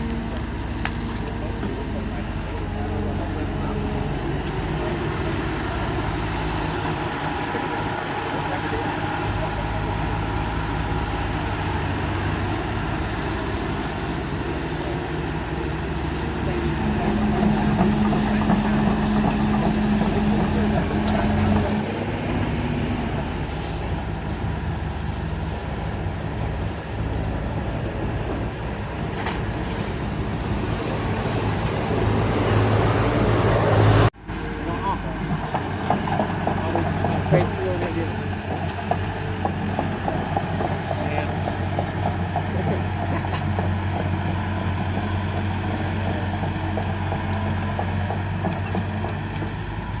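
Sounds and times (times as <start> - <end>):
excavator diesel engine droning: 0.0 - 50.0.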